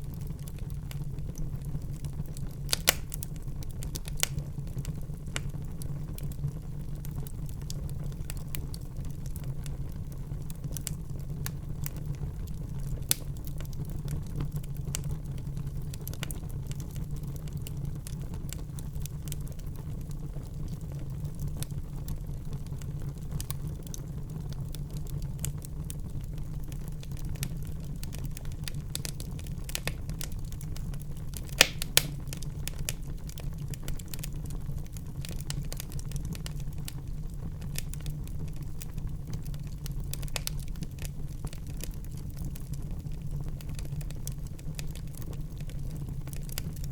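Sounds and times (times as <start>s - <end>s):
fire crackling and popping: 0.0s - 46.9s
low rumble of flames: 0.0s - 46.9s.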